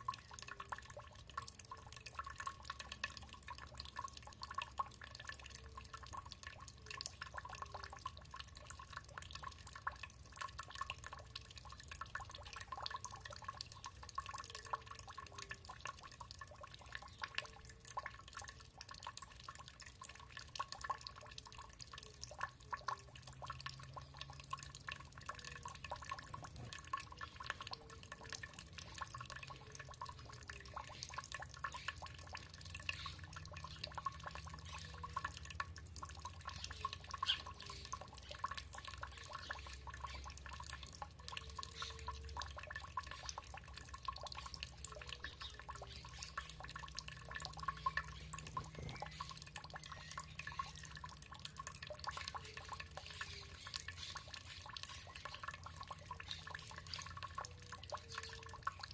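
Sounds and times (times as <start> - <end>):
water dripping: 0.0 - 58.9.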